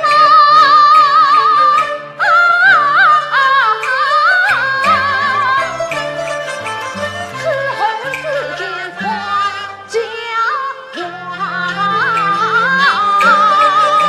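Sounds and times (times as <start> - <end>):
woman singing opera: 0.0 - 6.4, 7.2 - 14.0
percussion strikes: 0.0 - 10.3, 10.9 - 14.0
instrumental accompaniment: 0.0 - 14.0.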